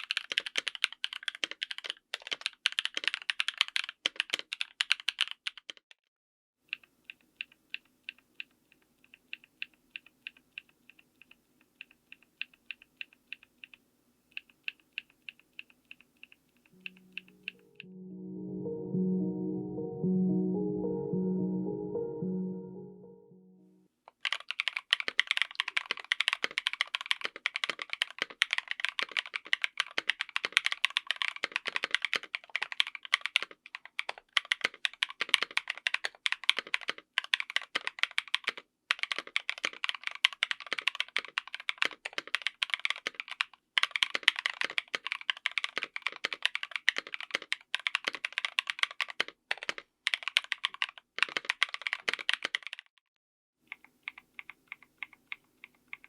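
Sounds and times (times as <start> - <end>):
fast typing on mechanical keyboard: 0.0 - 5.9, 6.7 - 16.6, 24.1 - 52.9, 53.7 - 56.0.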